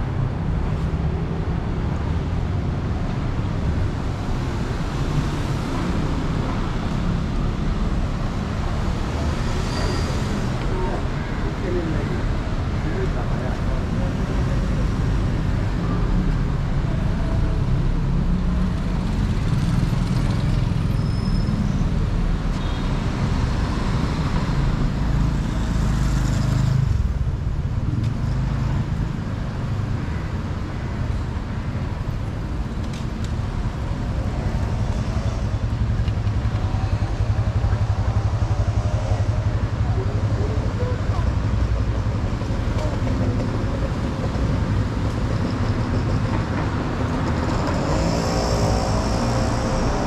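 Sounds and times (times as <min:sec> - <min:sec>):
rumble of passing traffic: 0:00.0 - 0:50.0.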